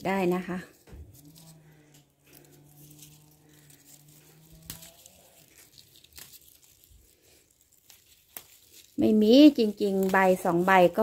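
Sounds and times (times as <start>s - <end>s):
leaves rustling and tearing: 0.0s - 11.0s
stems snapping: 0.3s - 11.0s.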